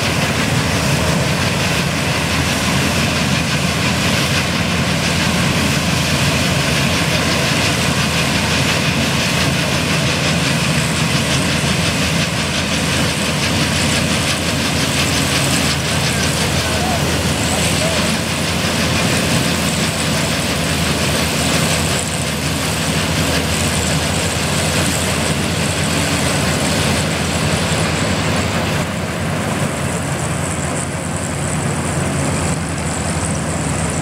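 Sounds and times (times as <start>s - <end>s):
combine harvester droning: 0.0s - 34.0s.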